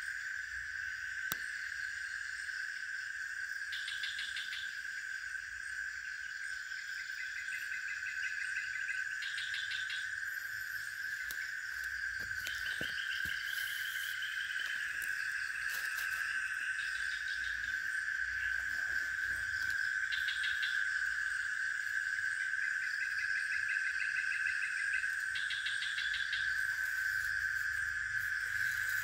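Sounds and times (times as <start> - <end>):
high-pitched insect drone: 0.0 - 29.0
insect chirping trills: 0.0 - 29.0.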